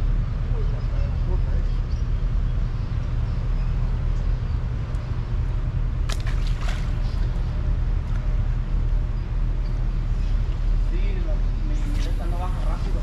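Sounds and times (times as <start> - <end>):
traffic rumble on bridge: 0.0 - 13.0.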